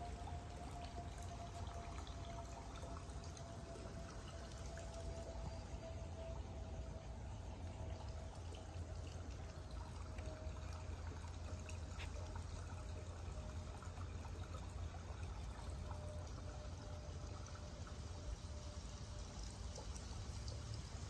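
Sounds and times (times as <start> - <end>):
low steady hum: 0.0 - 21.0
water trickling and pouring: 0.0 - 21.0.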